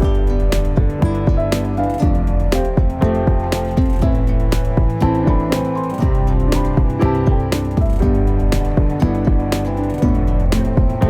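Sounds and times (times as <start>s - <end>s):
instrumental music with plucked strings: 0.0s - 11.0s.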